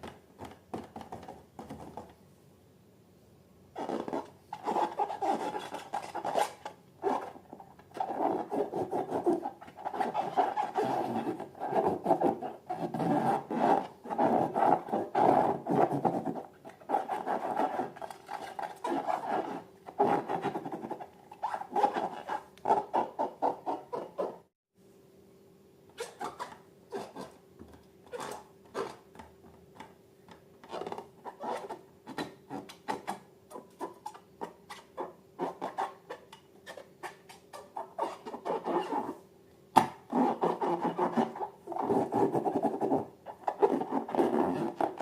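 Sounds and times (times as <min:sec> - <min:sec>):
balloons rubbing and squeaking: 0:03.8 - 0:24.5, 0:26.0 - 0:27.4, 0:28.1 - 0:29.0, 0:30.6 - 0:39.2, 0:40.1 - 0:45.0.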